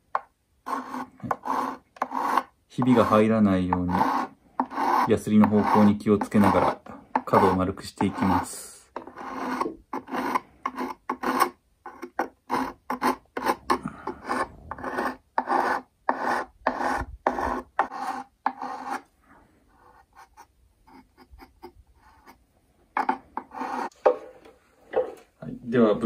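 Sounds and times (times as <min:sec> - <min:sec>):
hand file scraping wood: 0:00.1 - 0:19.1, 0:19.7 - 0:24.3.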